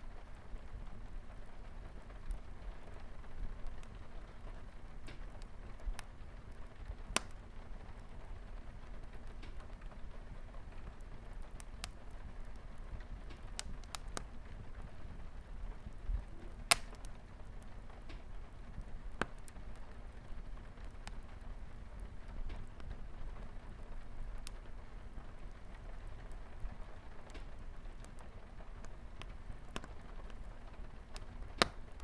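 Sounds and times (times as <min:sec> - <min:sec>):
light rain on a window: 0:00.0 - 0:32.0
wood fire crackling: 0:00.0 - 0:32.0.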